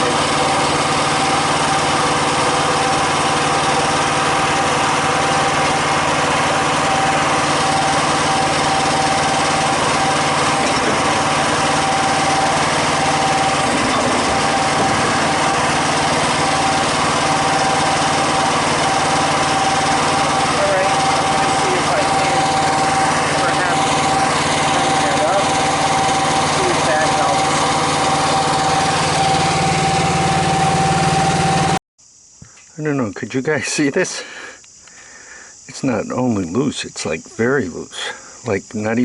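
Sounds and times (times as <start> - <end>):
mini excavator engine running: 0.0 - 31.8.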